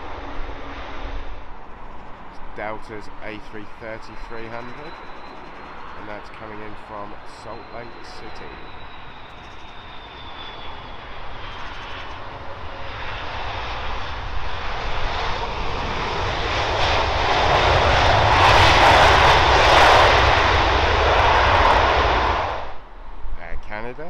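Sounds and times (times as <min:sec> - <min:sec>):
jet engines rushing: 0:00.0 - 0:23.2.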